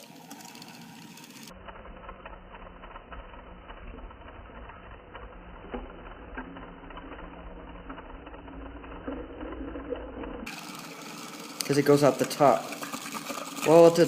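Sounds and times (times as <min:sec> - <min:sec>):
small electric motor whirring: 0:00.0 - 0:14.0.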